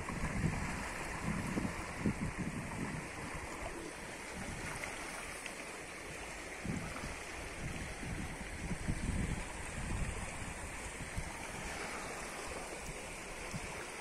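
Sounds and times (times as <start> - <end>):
wind buffeting microphone: 0.0 - 5.0, 6.0 - 14.0.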